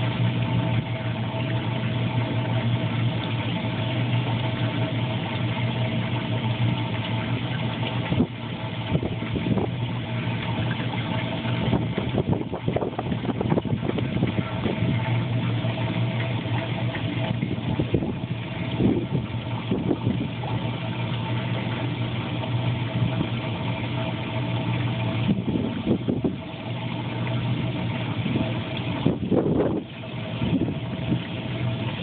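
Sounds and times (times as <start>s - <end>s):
pump hum: 0.0s - 32.0s.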